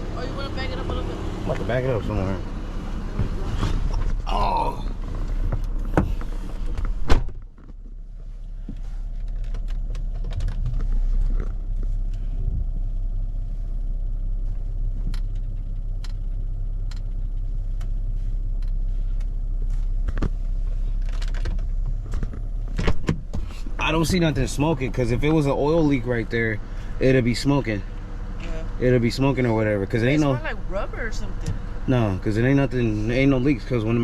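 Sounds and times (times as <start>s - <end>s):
car engine humming: 0.0s - 34.0s.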